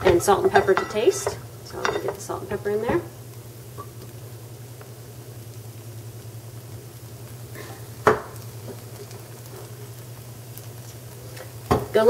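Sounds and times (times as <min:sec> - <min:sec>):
food sizzling in frying pan: 0:00.0 - 0:12.0
low steady hum: 0:00.0 - 0:12.0.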